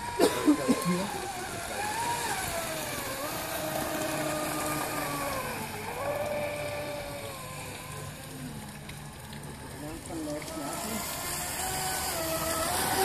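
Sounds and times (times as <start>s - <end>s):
electric motor high whine: 0.0s - 9.2s, 10.0s - 13.0s.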